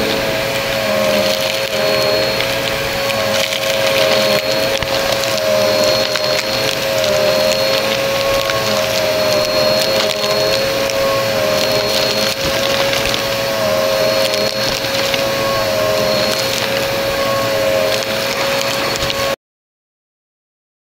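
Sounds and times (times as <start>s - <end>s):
grit rattling up vacuum nozzle: 0.0s - 19.4s
vacuum cleaner motor whine: 0.0s - 19.4s.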